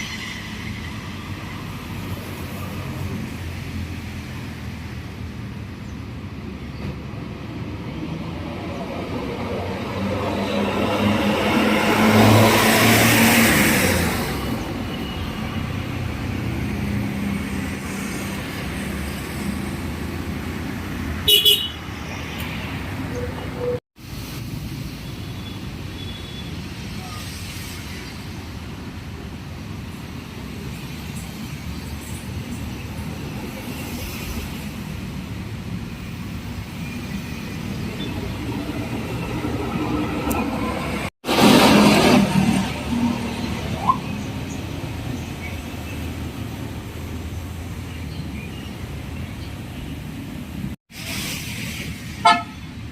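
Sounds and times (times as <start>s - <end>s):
bus passing by: 0.0s - 52.9s
rumble of engines: 0.0s - 52.9s.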